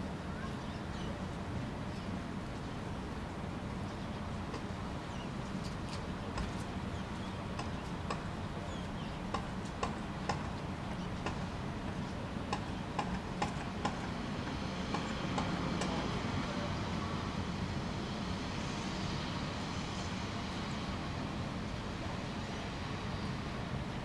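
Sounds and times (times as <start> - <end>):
distant city traffic hum: 0.0 - 24.0.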